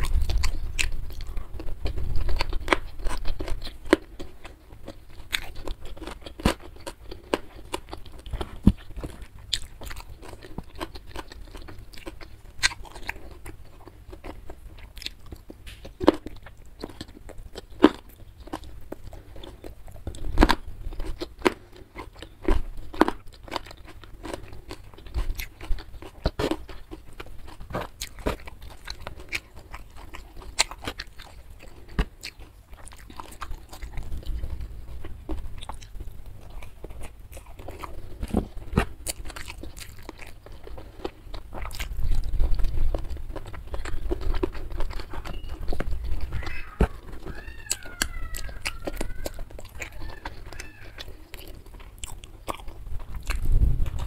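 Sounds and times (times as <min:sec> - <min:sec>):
chewing and biting food: 0:00.0 - 0:54.0.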